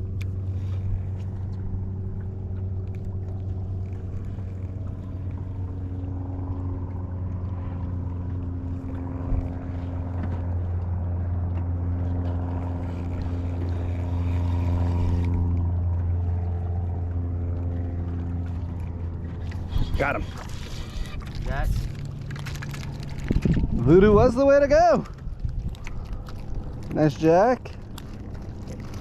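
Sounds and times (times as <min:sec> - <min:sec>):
motorboat engine running: 0:00.0 - 0:29.0.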